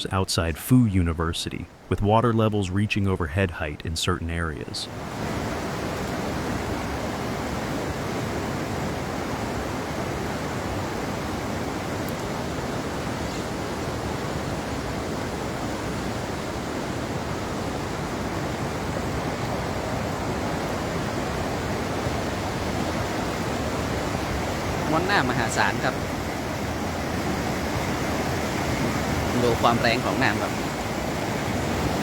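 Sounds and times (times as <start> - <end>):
floodwater rushing: 0.0 - 32.0.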